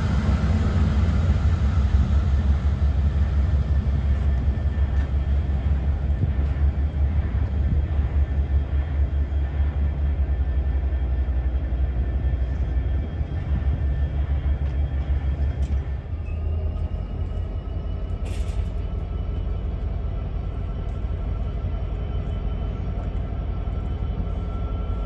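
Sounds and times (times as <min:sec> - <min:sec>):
locomotive engine idling: 0:00.0 - 0:25.0.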